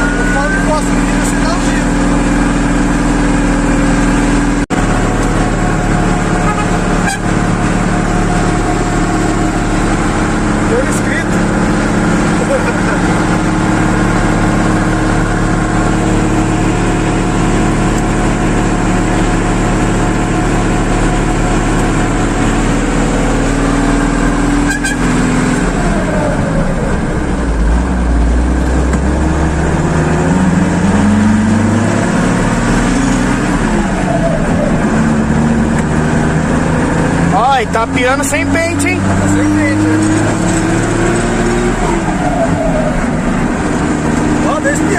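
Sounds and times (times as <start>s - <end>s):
truck engine revving: 0.0s - 44.9s.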